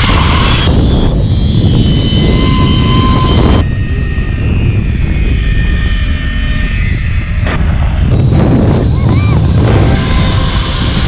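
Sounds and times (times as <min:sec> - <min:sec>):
zip-line trolley on cable: 0:00.0 - 0:07.5, 0:08.1 - 0:11.0
wind on microphone: 0:00.0 - 0:11.0.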